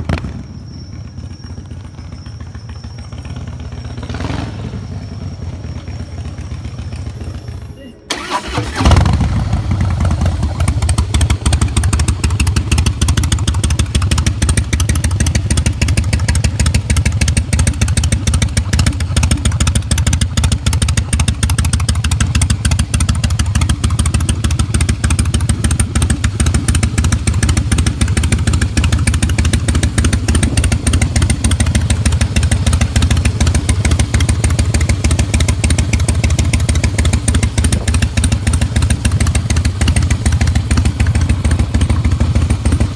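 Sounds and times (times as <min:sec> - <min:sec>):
motorcycle engine idling: 0:00.9 - 0:42.9.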